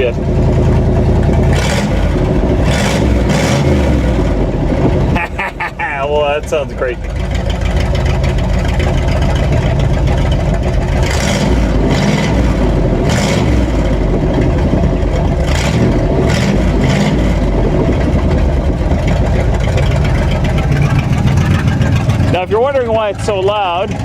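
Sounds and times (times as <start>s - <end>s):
pickup engine running loud: 0.0s - 24.0s.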